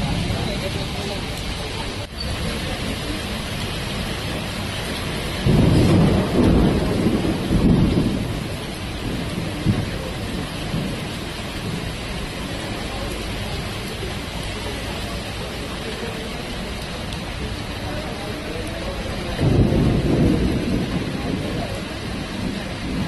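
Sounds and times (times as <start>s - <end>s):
heavy rain falling: 0.0s - 23.0s
thunder rumbling: 0.0s - 23.0s.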